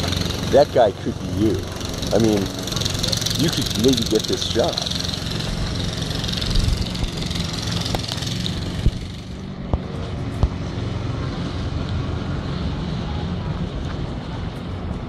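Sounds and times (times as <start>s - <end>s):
lawn mower running: 0.0s - 15.0s.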